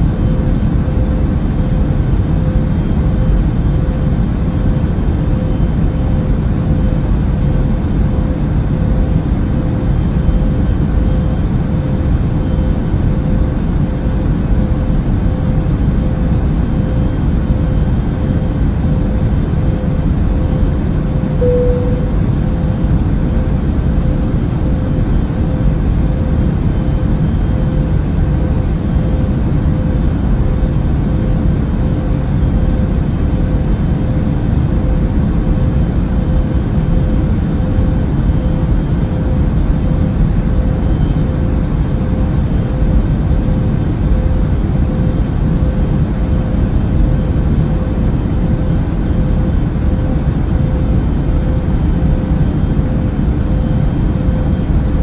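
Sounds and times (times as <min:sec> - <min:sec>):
airplane cabin rumble: 0:00.0 - 0:55.0
constant mid hum: 0:00.0 - 0:55.0.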